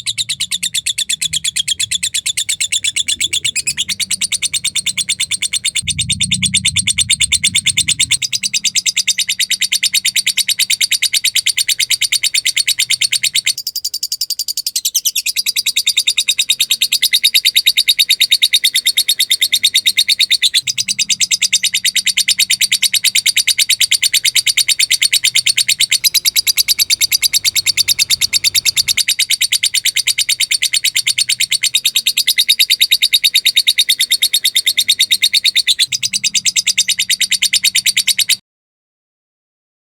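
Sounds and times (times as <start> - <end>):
lovebird rapid high chirps: 0.0 - 38.4.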